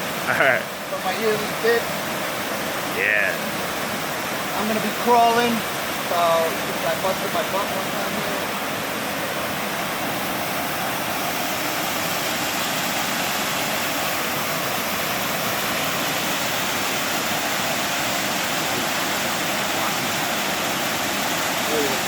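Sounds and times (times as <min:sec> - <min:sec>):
waterfall pouring into pool: 0:00.0 - 0:22.0.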